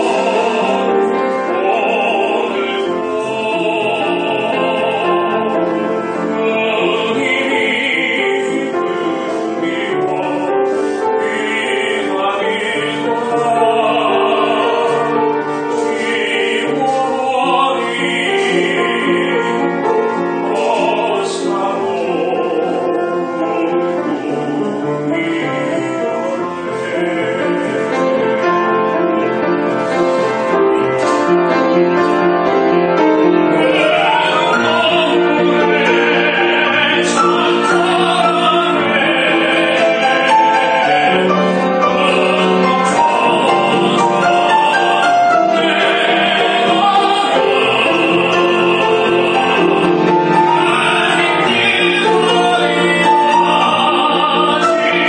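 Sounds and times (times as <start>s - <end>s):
man singing operatically: 0.0s - 29.8s, 30.4s - 55.0s
piano accompaniment: 0.0s - 55.0s.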